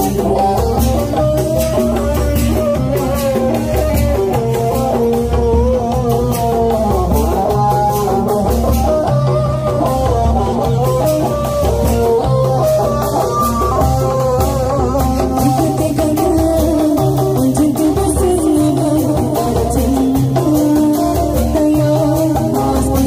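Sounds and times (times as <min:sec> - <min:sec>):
loud guitar music over loudspeakers: 0:00.0 - 0:23.0.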